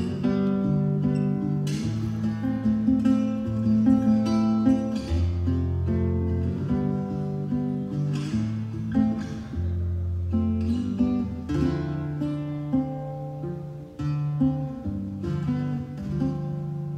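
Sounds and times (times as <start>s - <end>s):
acoustic guitar strumming chords: 0.0s - 16.9s.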